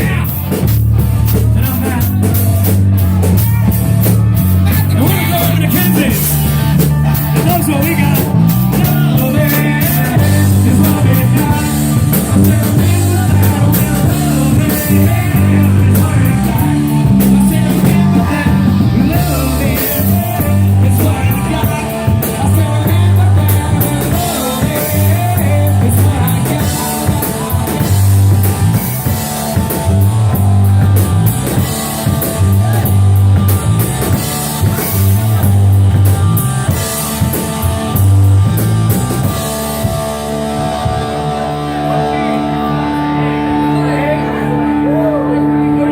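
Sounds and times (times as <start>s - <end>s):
drum kit: 0.0s - 42.9s
bass guitar: 0.0s - 45.9s
electric guitar: 0.0s - 45.9s
person singing: 4.6s - 37.4s, 40.1s - 45.9s.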